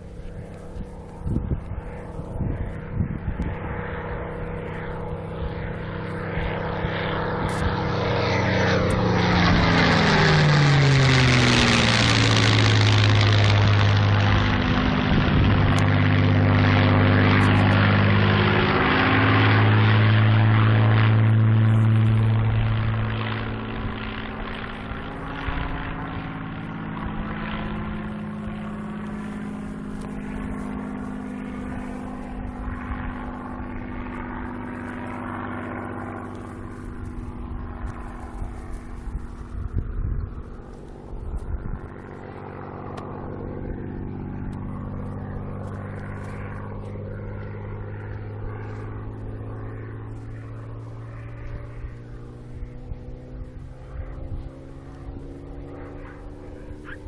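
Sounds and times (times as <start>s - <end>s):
propeller aircraft engine passing: 0.0s - 57.0s.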